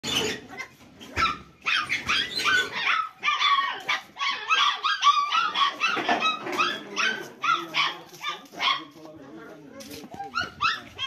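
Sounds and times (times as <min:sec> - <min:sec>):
puppies yelping and whimpering: 0:00.0 - 0:08.4, 0:10.1 - 0:11.0.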